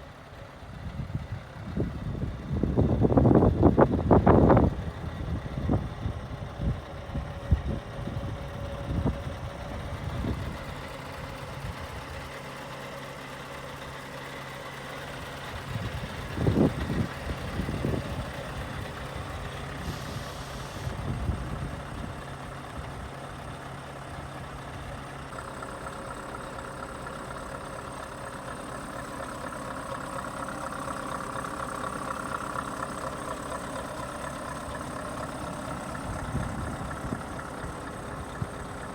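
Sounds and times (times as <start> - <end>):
diesel truck idling: 0.0 - 38.9.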